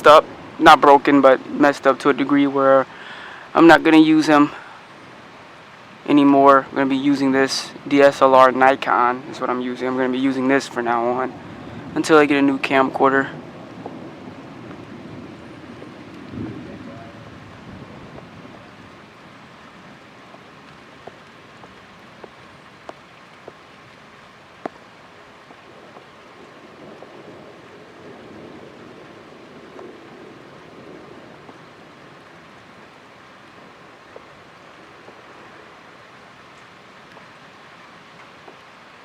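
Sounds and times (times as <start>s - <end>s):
muffled steady rain: 0.0s - 39.0s
raindrops ticking near microphone: 0.0s - 39.0s.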